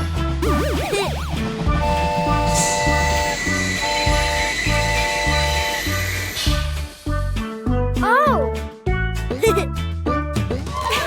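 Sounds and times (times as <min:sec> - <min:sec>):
children's music: 0:00.0 - 0:11.0.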